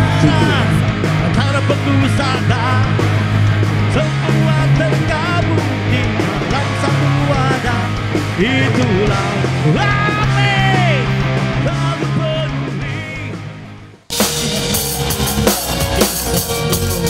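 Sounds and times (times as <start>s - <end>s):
rock band playing loud: 0.0s - 17.0s.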